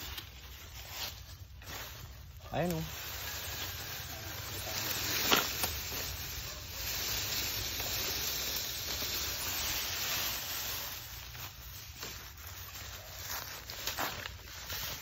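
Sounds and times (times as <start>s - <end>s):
branches rustling over dry leaves: 0.0s - 15.0s.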